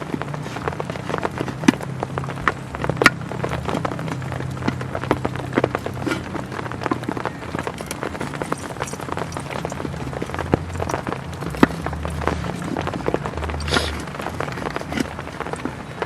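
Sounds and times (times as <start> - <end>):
heavy rain on a tent: 0.0 - 16.0.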